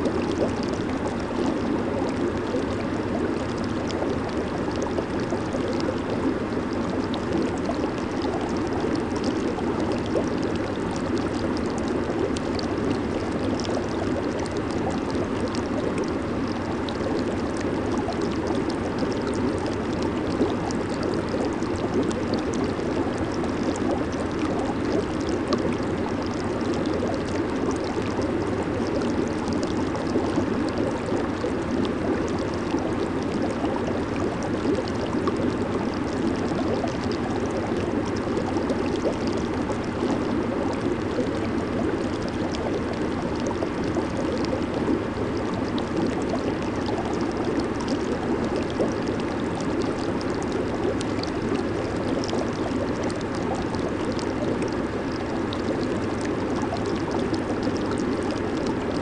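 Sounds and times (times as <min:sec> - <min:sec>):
jacuzzi water bubbling: 0:00.0 - 0:59.0.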